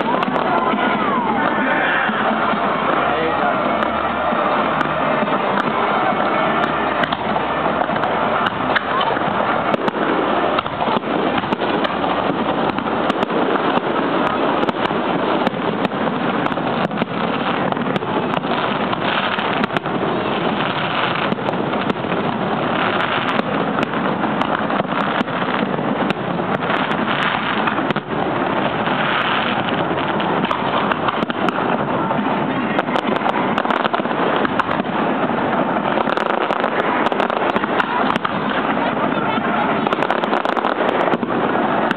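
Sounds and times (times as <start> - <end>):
crowd voices: 0.0 - 41.9
dense rumble: 0.0 - 41.9
fireworks bangs and crackles: 0.0 - 41.9.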